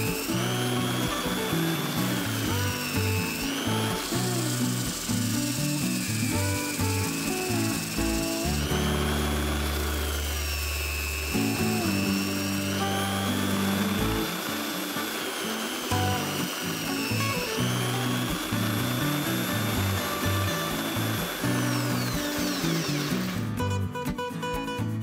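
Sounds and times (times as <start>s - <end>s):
background music with bass line: 0.0s - 14.4s, 15.9s - 25.0s
belt sander whining: 0.0s - 23.6s.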